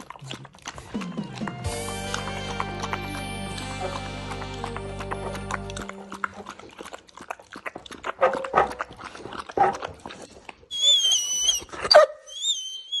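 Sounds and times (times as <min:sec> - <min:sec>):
dog lapping from plastic bowl: 0:00.0 - 0:10.7.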